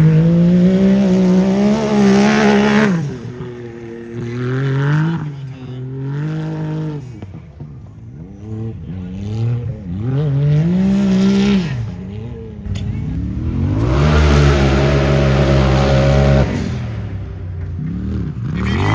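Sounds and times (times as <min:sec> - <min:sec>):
engine revving: 0:00.0 - 0:18.9.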